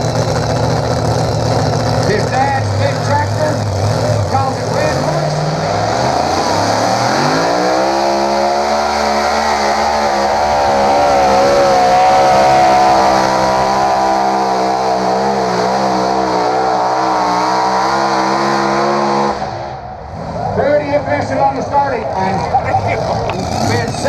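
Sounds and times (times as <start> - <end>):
tractor engine at high revs: 0.0 - 20.2, 22.0 - 24.0.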